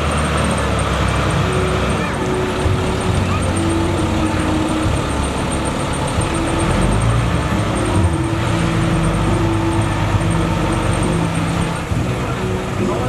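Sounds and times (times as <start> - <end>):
heavy machinery diesel engine rumble: 0.0 - 13.0.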